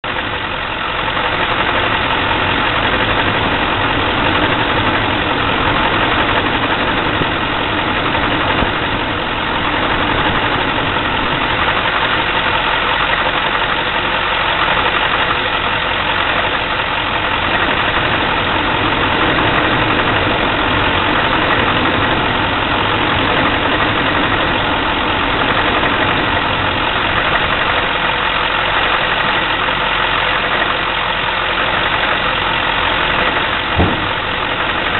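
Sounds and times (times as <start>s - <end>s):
diesel engine idling roughly: 0.0s - 34.9s.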